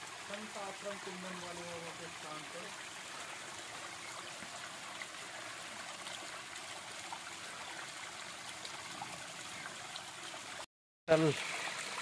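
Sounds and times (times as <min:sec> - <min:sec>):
small waterfall babbling: 0:00.0 - 0:12.0.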